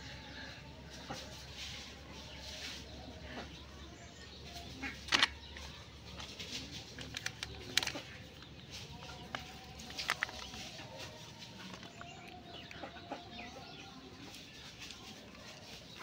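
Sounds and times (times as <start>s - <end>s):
birds calling faintly: 0.0s - 16.0s.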